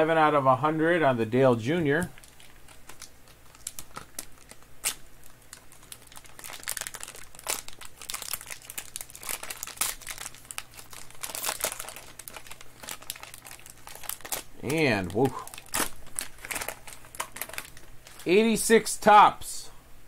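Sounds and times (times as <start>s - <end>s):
plastic wrapping crinkling: 1.9s - 18.4s.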